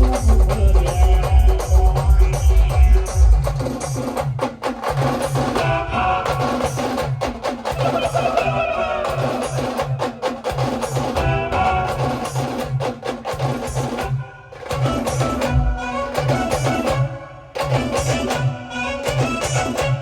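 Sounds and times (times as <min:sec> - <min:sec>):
fast drum beat: 0:00.0 - 0:20.0
live band music: 0:00.0 - 0:20.0.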